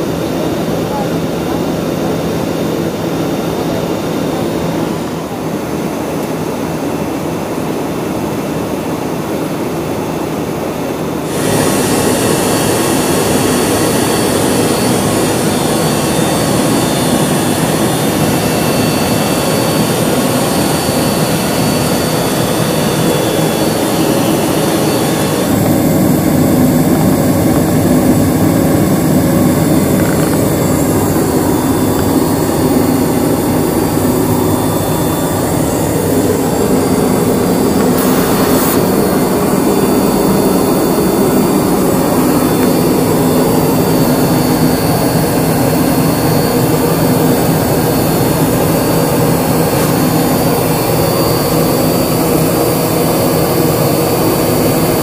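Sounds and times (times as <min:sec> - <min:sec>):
jet engine noise in cabin: 0:00.0 - 0:55.0.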